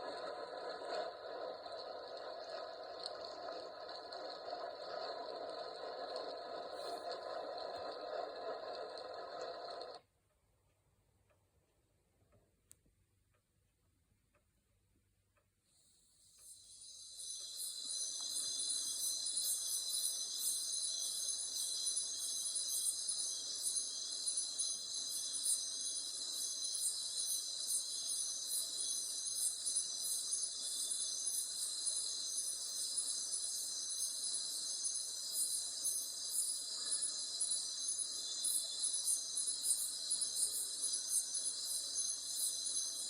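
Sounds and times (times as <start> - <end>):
insect chorus trilling: 0.0 - 10.0, 16.4 - 43.0
rapid pulsing insect trill: 0.0 - 10.0, 16.4 - 43.0.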